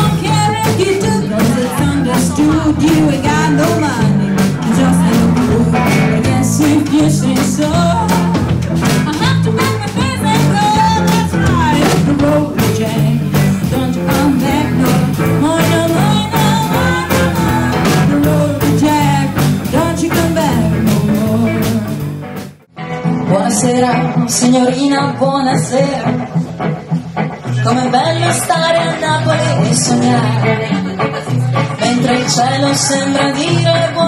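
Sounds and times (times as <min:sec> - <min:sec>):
woman singing: 0:00.0 - 0:22.0, 0:23.1 - 0:26.3, 0:27.5 - 0:34.0
rock and roll band playing: 0:00.0 - 0:34.0.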